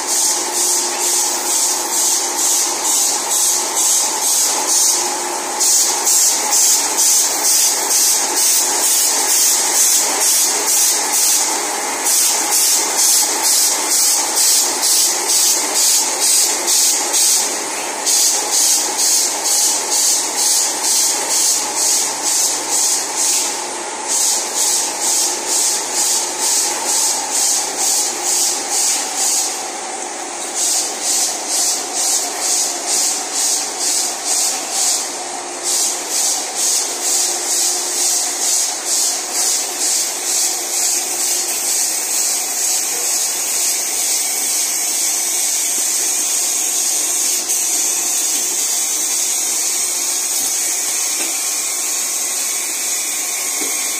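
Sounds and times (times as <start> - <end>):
pulsing machine hiss: 0.0 - 53.9.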